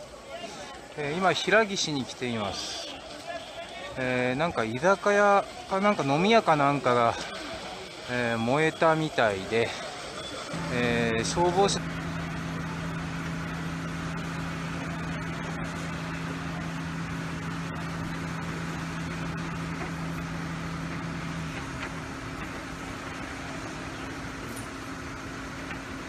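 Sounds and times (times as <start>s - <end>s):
outdoor noise: 0.0s - 26.0s
vehicle engines idling: 0.0s - 26.0s.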